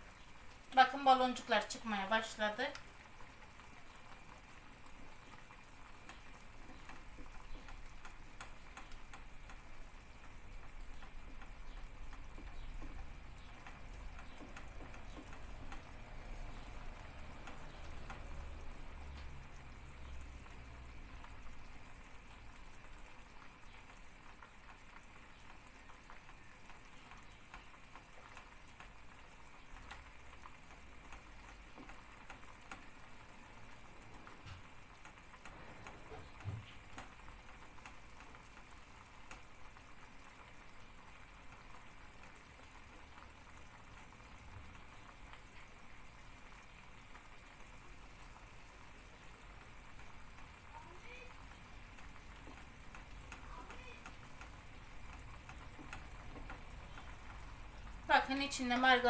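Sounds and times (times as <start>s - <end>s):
faint bubbling pudding: 0.0s - 59.0s.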